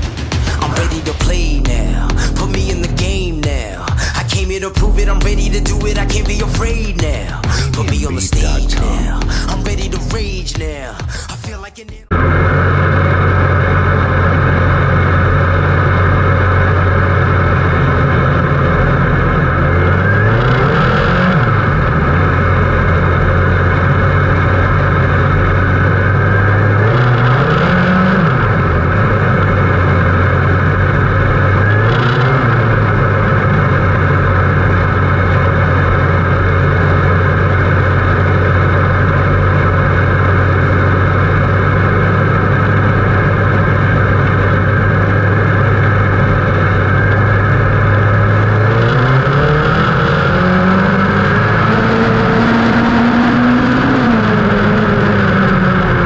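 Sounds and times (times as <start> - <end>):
engine throttle blips: 0.0 - 56.0
race car engine running: 0.0 - 56.0.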